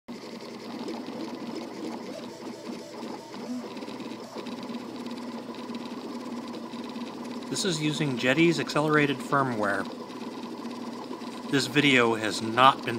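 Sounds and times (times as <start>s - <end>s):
steady hum: 0.1s - 12.9s
stepper motors whirring: 0.1s - 12.9s.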